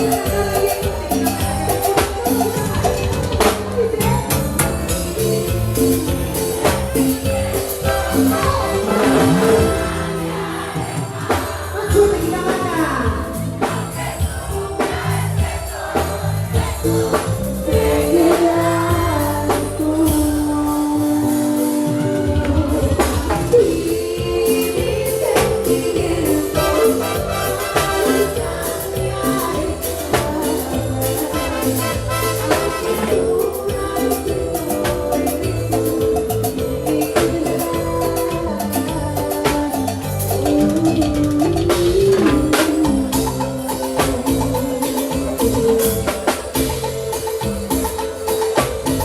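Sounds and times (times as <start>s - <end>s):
person singing: 0.0s - 47.5s
live band playing cumbia: 0.0s - 49.0s.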